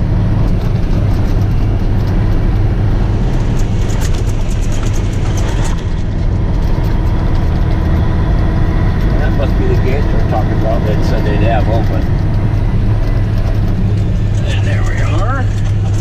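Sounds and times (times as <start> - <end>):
truck engine and tyre drone: 0.0 - 16.0.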